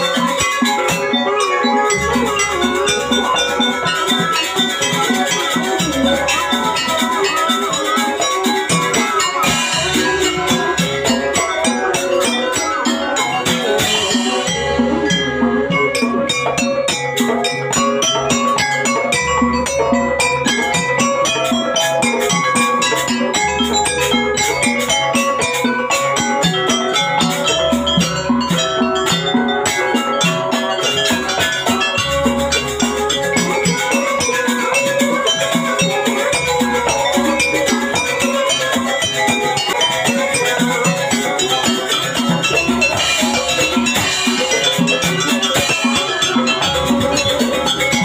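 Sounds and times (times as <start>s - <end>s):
drums beating: 0.0s - 48.0s
tuned metal percussion ringing: 0.0s - 48.0s.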